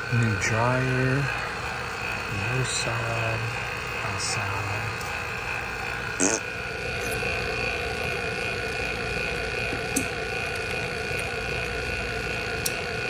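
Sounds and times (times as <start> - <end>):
high whine: 0.0 - 13.0
machine humming: 0.0 - 13.0.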